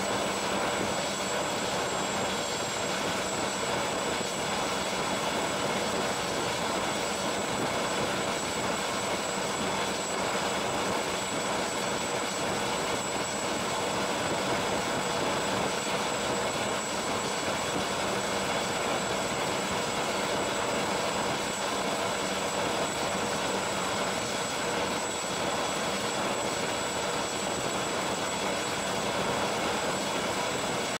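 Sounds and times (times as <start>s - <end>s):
helicopter rotor idling: 0.0s - 31.0s
thin high turbine whine: 0.0s - 31.0s.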